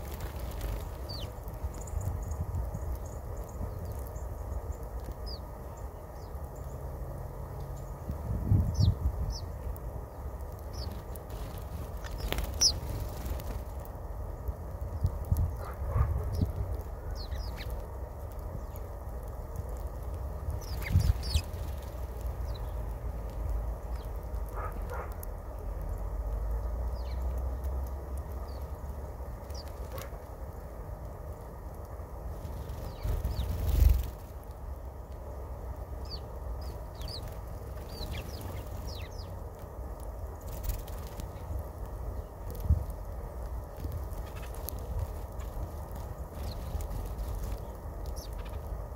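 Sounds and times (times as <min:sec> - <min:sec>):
small birds chirping: 0:00.0 - 0:48.9
steady low rumble: 0:00.0 - 0:48.9.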